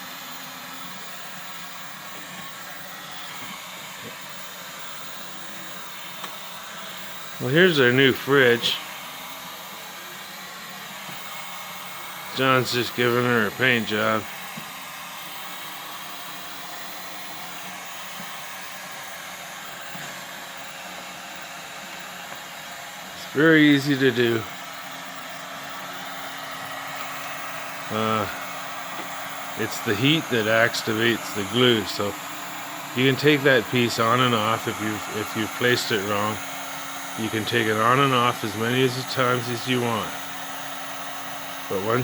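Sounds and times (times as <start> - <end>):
heat gun hissing: 0.0 - 42.0.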